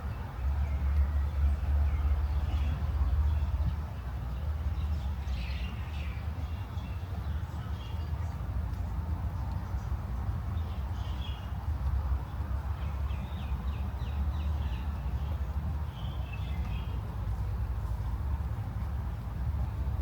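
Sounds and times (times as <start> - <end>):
low rumble of outdoor ambience: 0.0 - 20.0.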